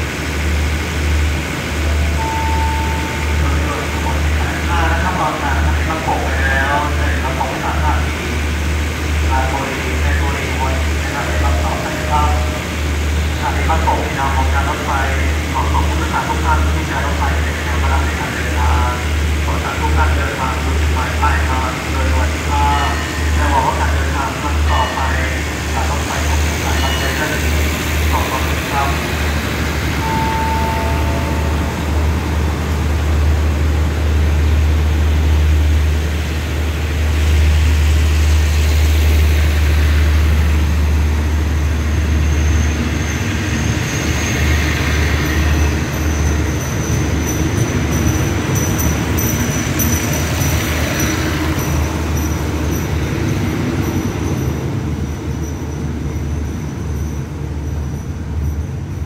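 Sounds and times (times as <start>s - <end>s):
rumble of train wheels on rail: 0.0s - 59.0s.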